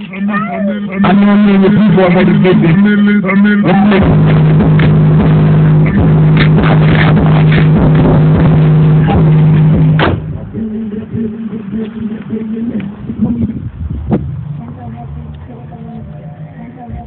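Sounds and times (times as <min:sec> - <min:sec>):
loud steady bass tone: 0:00.0 - 0:17.0.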